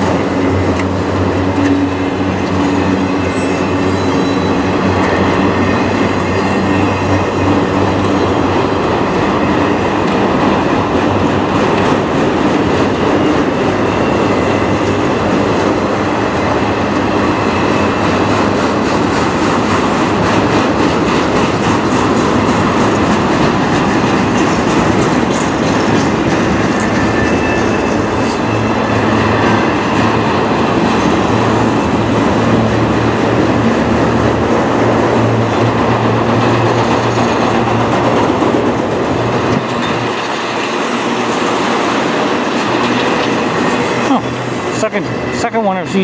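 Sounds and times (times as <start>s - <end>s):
freight cars rumbling on rails: 0.0s - 46.0s.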